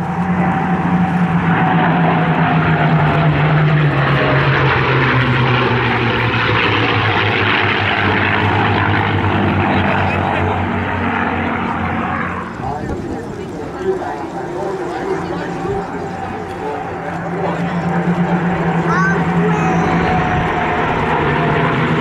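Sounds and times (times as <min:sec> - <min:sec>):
propeller aircraft flying past: 0:00.0 - 0:22.0.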